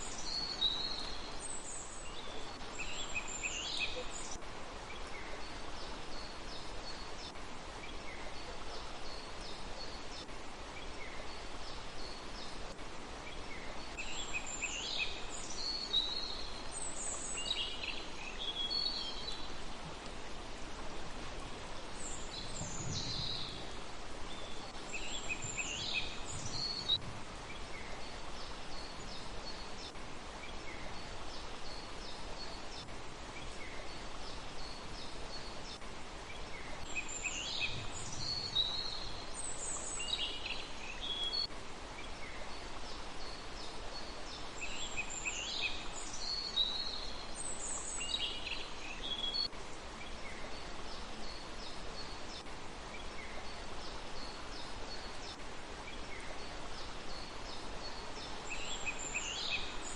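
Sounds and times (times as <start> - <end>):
small birds chirping: 0.0 - 59.9
steady outdoor hiss: 0.0 - 59.9.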